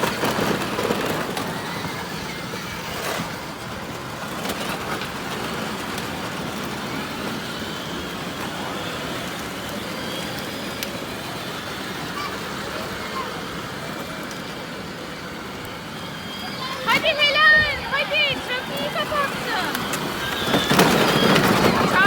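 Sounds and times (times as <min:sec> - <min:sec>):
hard wheels rolling on pavement: 0:00.0 - 0:22.0
small electric motors: 0:00.0 - 0:22.0.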